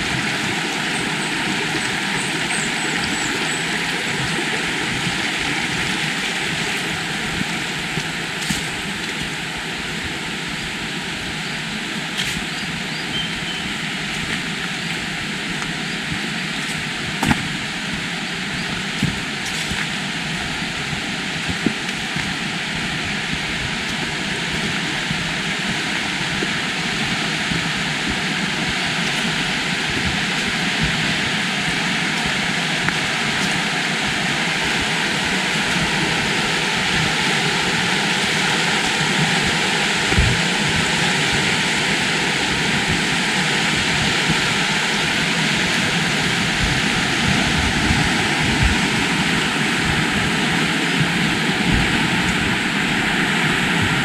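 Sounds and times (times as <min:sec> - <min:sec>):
fast-flowing river water: 0:00.0 - 0:54.0.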